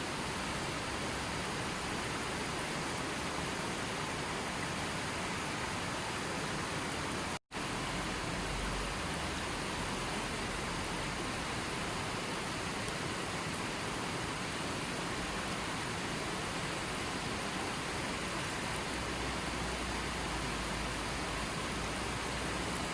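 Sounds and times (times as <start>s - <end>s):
water rushing: 0.0s - 22.9s.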